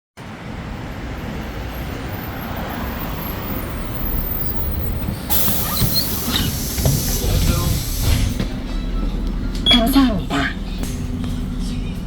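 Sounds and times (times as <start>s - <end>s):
bus engine low rumble: 0.2s - 12.0s.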